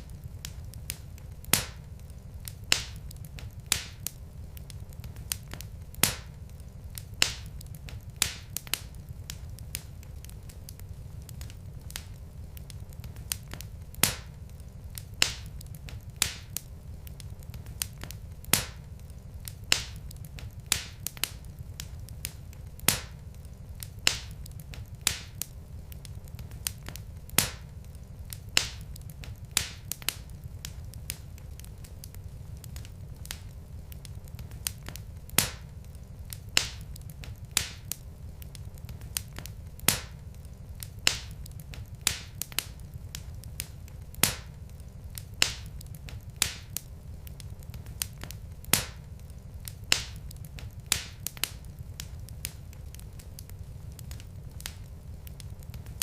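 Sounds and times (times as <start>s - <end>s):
fire low rumble: 0.0s - 56.0s
wood fire crackling: 0.0s - 56.0s.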